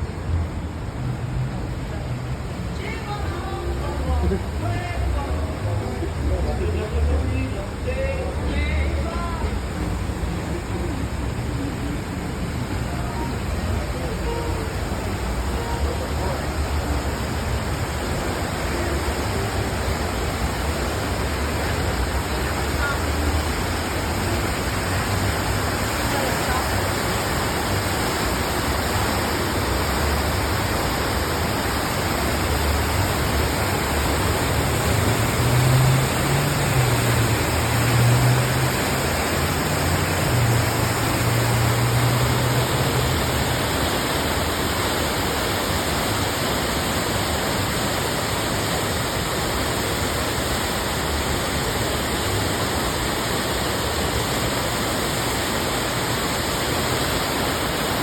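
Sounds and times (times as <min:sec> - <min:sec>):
waterfall pouring and splashing: 0:00.0 - 0:58.0.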